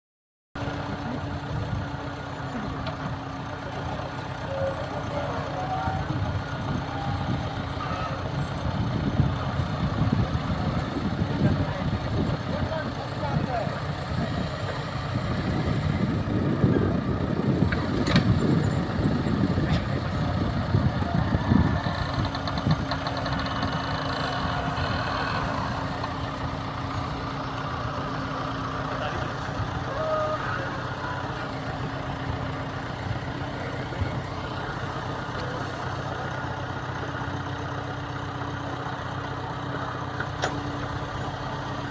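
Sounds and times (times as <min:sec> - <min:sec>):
machinery engine droning: 0:00.6 - 0:41.9.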